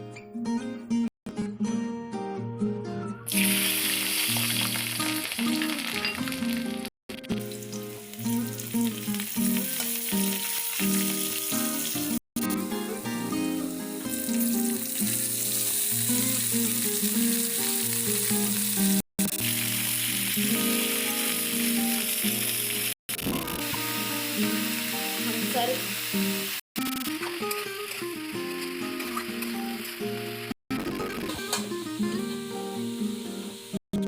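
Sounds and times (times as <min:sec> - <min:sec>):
food sizzling in hot oil: 0:03.3 - 0:30.6, 0:31.5 - 0:33.8.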